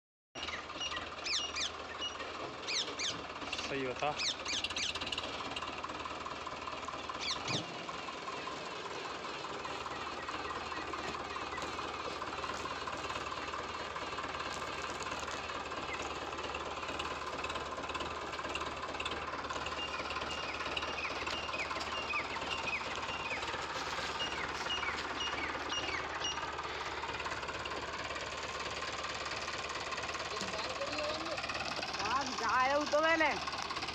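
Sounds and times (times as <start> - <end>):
tractor diesel engine knocking: 0.4 - 33.9.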